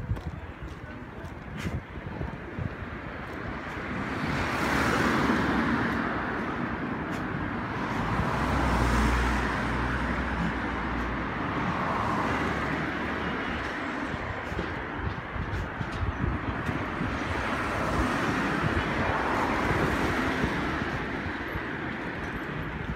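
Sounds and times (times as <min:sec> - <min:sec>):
cars passing: 0:00.0 - 0:22.9.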